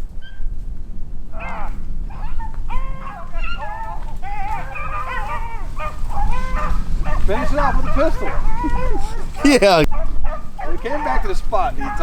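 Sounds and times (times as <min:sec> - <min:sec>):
dogs baying: 0:01.3 - 0:12.0.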